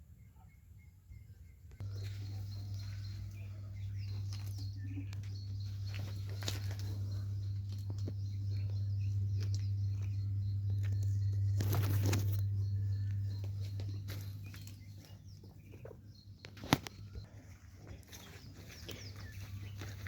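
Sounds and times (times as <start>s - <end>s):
steady low hum: 1.0s - 20.0s.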